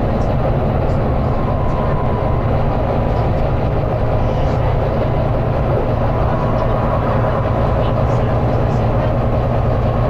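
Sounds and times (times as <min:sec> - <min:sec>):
bus diesel engine droning: 0:00.0 - 0:10.0
road noise: 0:00.0 - 0:10.0.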